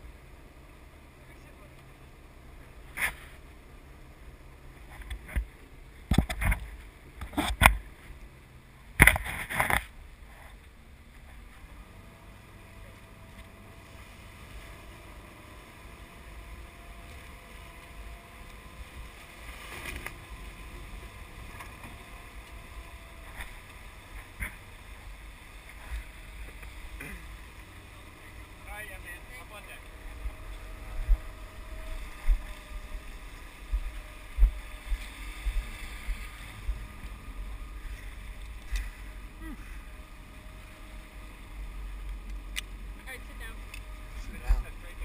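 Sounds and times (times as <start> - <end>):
boat motor running: 0.0 - 45.0.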